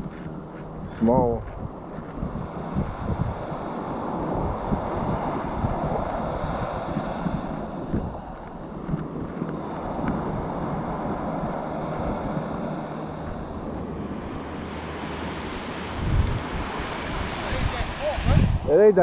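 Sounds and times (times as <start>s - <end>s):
ocean surf washing on beach: 0.0s - 19.0s
wind buffeting microphone: 0.0s - 19.0s.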